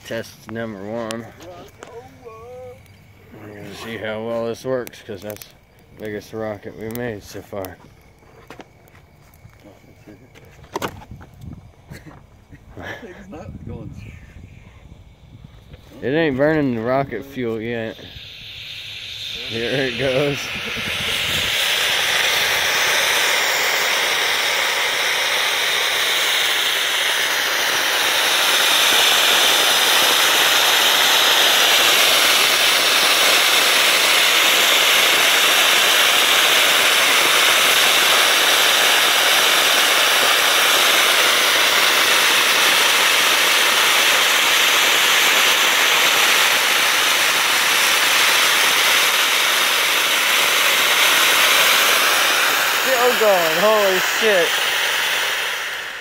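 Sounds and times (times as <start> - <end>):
rocket motor exhaust hiss: 0.0 - 56.0.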